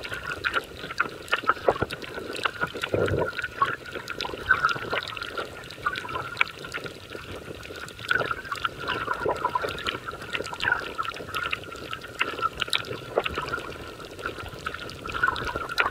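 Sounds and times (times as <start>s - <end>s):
underwater crackling clicks: 0.0s - 15.9s.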